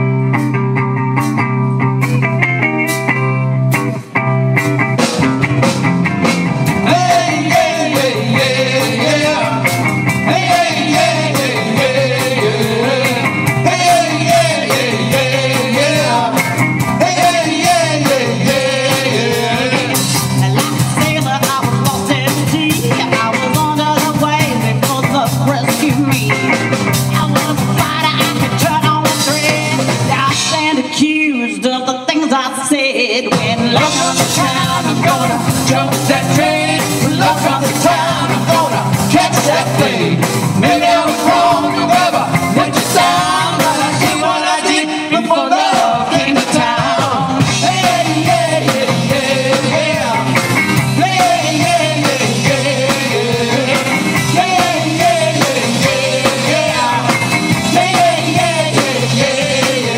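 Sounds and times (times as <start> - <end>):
bending guitar melody line: 0.0 - 59.9
live blues-rock band: 0.0 - 59.9.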